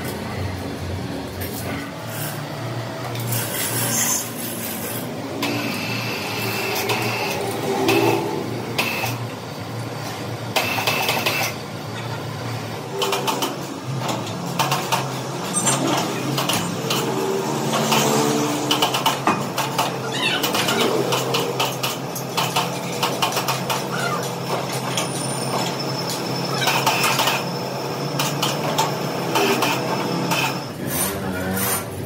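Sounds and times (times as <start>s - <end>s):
metalworking machine humming: 0.0s - 32.0s.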